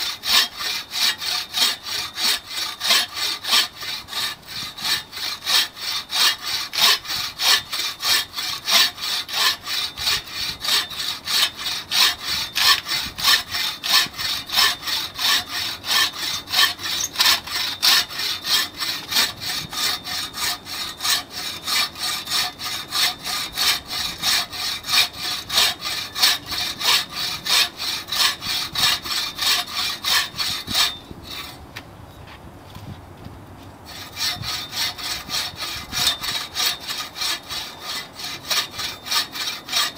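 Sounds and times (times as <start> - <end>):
buck saw cutting through log: 0.0 - 31.6, 33.9 - 39.9.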